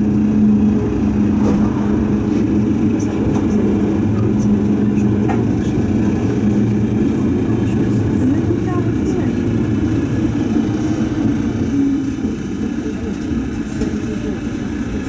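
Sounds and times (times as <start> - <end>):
tram hum: 0.0 - 15.0
wheels rumbling on rails: 0.0 - 15.0.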